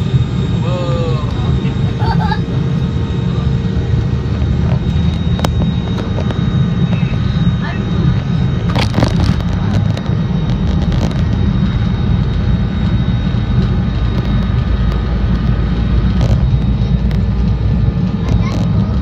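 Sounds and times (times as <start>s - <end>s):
high whine: 0.0s - 19.0s
jet engines rumbling: 0.0s - 19.0s.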